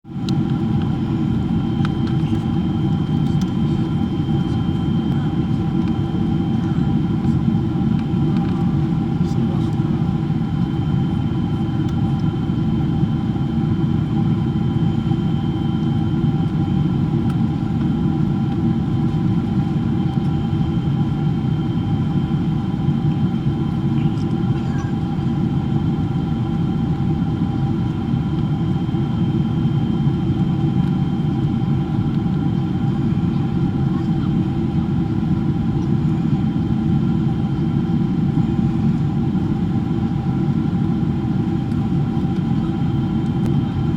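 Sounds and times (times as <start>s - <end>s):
airplane cabin engine rumble: 0.1s - 43.9s.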